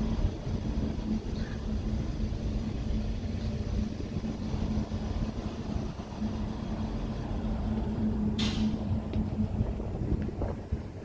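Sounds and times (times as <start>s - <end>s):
ship machinery drone: 0.0s - 11.0s.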